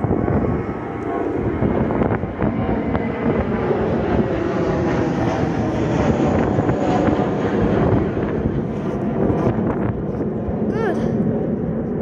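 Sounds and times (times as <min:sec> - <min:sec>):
jet engines rumbling: 0:00.0 - 0:12.0
wind buffeting microphone: 0:00.0 - 0:12.0.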